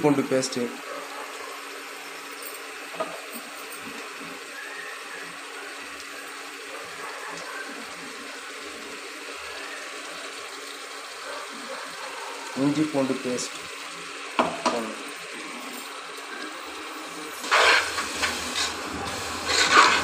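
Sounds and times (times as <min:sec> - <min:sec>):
masala sizzling in oil: 0:00.1 - 0:20.0.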